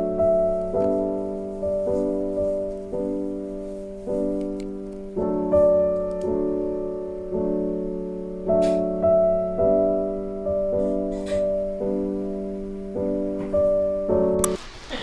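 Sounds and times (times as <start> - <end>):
piano chords ringing: 0.0 - 14.6.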